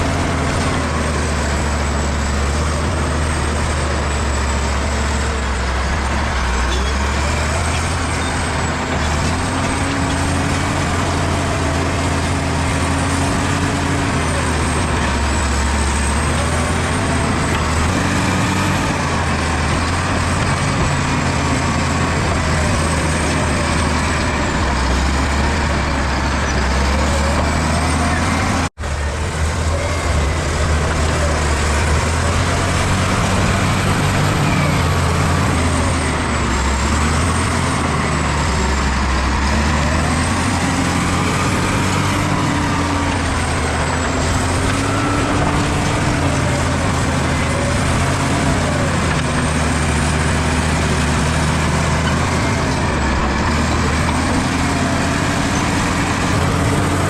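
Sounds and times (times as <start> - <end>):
bulldozer engine under load: 0.0 - 57.0.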